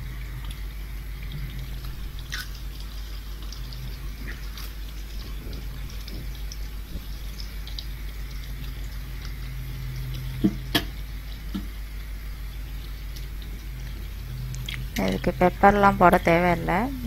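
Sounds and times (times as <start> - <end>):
eggs sizzling in oil: 0.0 - 17.0
steady low hum: 0.0 - 17.0.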